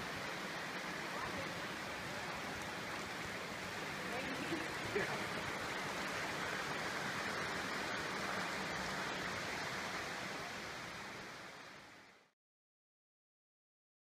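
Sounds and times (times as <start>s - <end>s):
creek water rushing: 0.0s - 12.3s.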